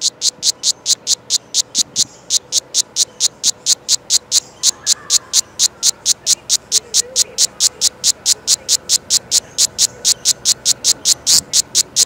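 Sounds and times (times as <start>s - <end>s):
cicada pulsing call: 0.0s - 12.0s.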